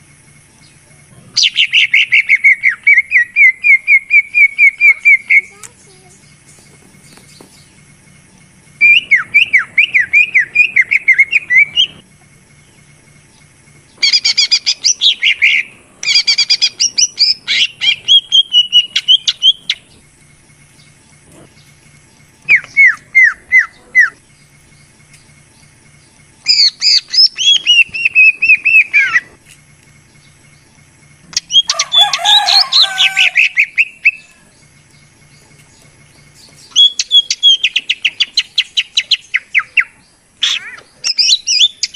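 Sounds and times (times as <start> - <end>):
bird chirping rapidly: 1.4 - 29.4, 30.0 - 41.9.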